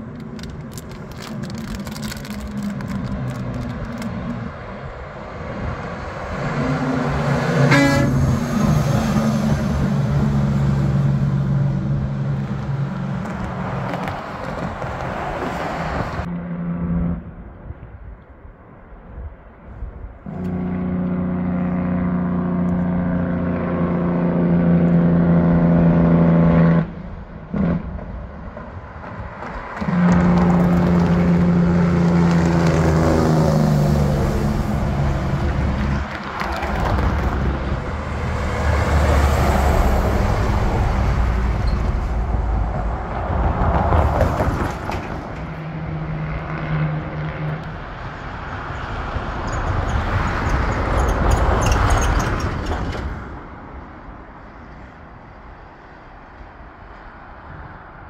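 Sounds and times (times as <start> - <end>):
passing trucks engine and tyre noise: 0.0 - 58.0.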